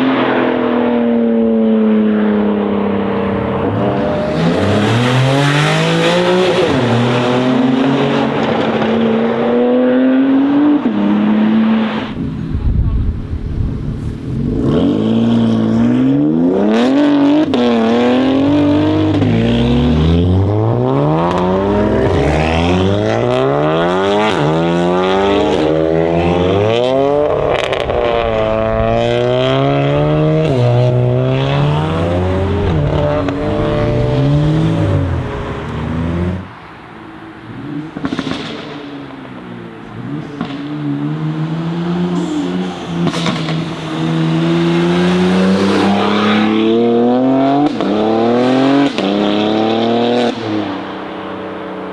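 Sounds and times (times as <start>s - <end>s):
car engine accelerating with upshifts: 0.0s - 51.9s.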